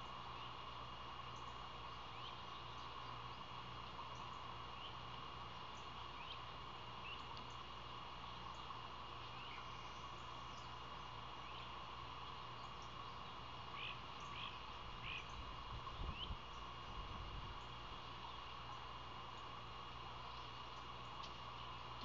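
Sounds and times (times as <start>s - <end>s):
insect drone: 0.0s - 22.0s
songbird chirps: 0.0s - 22.0s.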